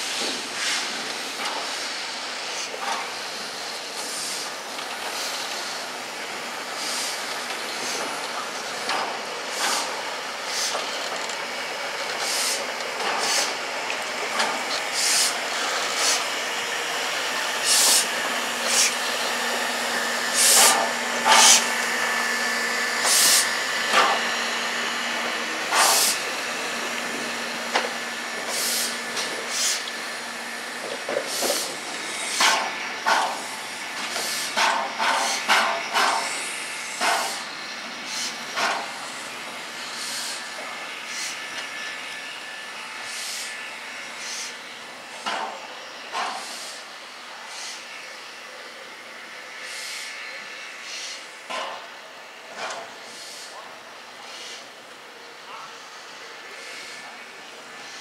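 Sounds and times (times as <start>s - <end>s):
steam locomotive puffs and knocks: 0.0s - 48.4s, 49.5s - 54.7s
steam hissing: 0.0s - 58.0s.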